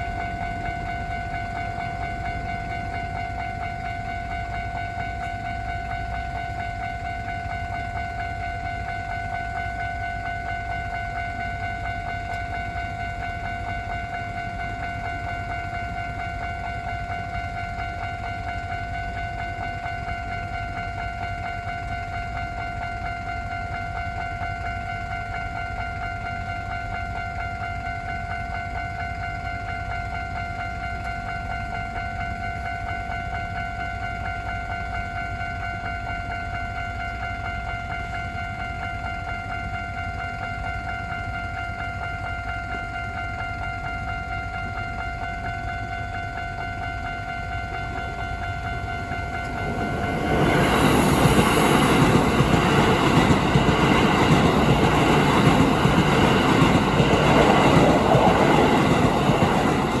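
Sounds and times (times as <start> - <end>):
electric train passing: 0.0 - 60.0
level-crossing alarm bell: 0.0 - 60.0.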